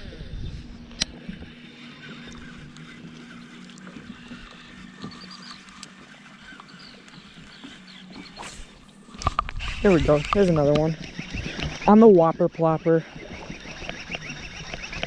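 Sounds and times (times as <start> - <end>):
steady low hum: 0.0 - 15.0
small birds chirping faintly: 1.8 - 15.0.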